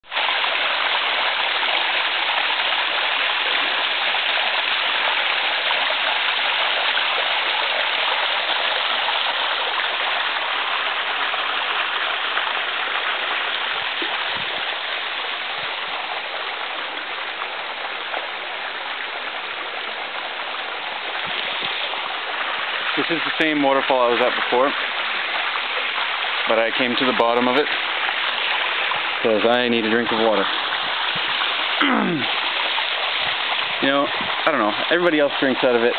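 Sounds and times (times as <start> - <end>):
waterfall splashing into pool: 0.0 - 35.9.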